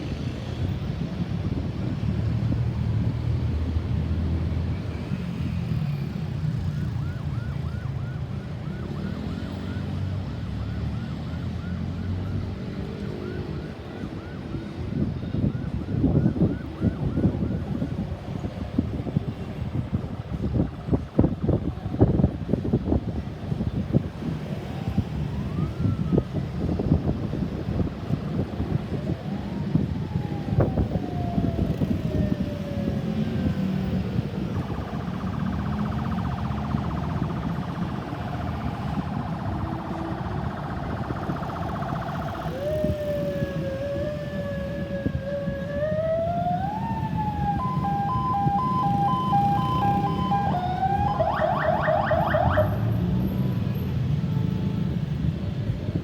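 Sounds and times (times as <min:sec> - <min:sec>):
ambulance siren: 0:00.1 - 0:56.0.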